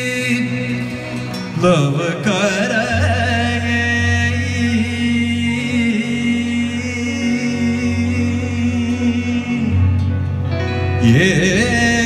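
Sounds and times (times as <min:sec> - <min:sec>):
person singing long notes: 0:00.0 - 0:12.0.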